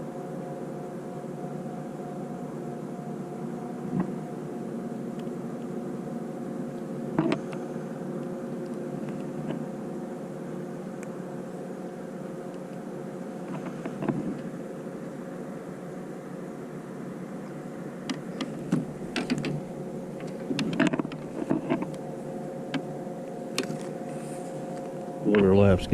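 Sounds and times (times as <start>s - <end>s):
mechanical drone: 0.0s - 25.9s.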